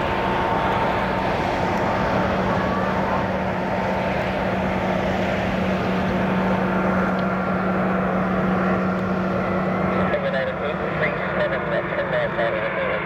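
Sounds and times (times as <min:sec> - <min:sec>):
higher engine whine: 0:00.0 - 0:13.0
jet engines rushing and whining: 0:00.0 - 0:13.0.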